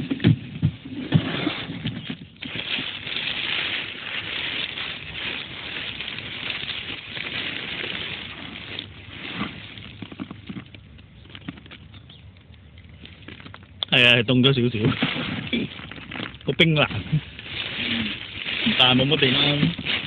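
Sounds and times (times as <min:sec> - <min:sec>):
hand rustling through dry pupae: 0:01.3 - 0:12.1, 0:12.9 - 0:20.0.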